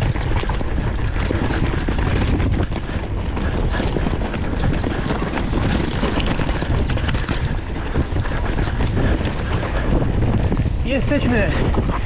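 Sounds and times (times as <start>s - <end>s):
bike rattling over stones: 0.0s - 12.0s
wind buffeting microphone: 0.0s - 12.0s.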